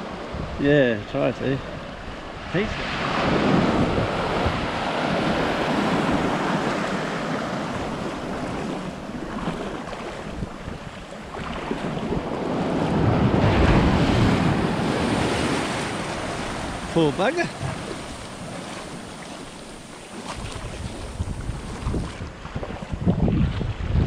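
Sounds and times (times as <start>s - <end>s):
wind buffeting microphone: 0.0s - 0.6s, 1.7s - 24.0s
ocean surf washing up beach: 0.0s - 23.1s.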